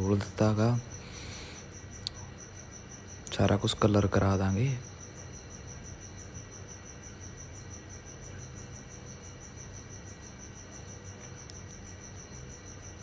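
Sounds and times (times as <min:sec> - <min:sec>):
faint low hum: 0:00.0 - 0:13.0
insect pulsing trill: 0:00.0 - 0:13.0.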